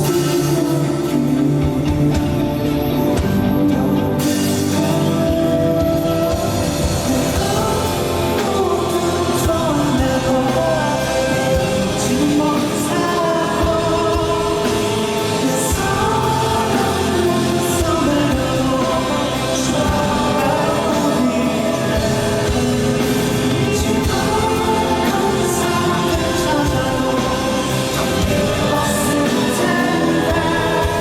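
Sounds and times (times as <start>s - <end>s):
drums and cymbals: 0.0s - 31.0s
live band playing: 0.0s - 31.0s
person singing: 0.0s - 31.0s.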